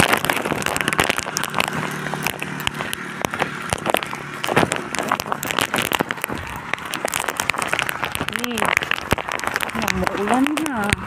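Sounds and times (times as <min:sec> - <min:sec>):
rain drops hitting close: 0:00.0 - 0:11.0.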